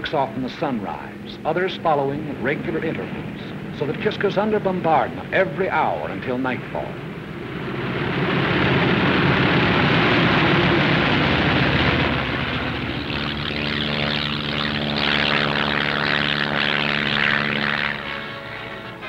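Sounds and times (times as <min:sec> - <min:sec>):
propeller engines roaring: 0:00.0 - 0:19.0
steady droning tone: 0:00.0 - 0:19.0.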